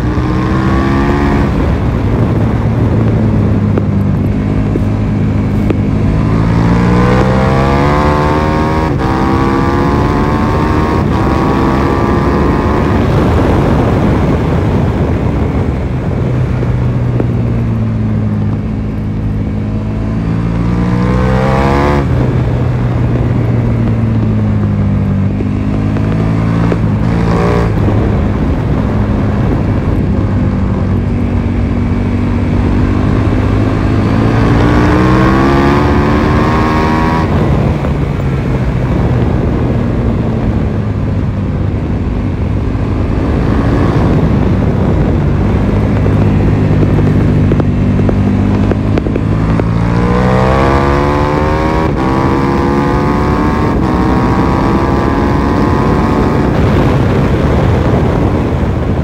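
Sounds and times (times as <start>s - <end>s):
motorcycle engine at speed: 0.0s - 59.0s
wind rushing: 0.0s - 59.0s.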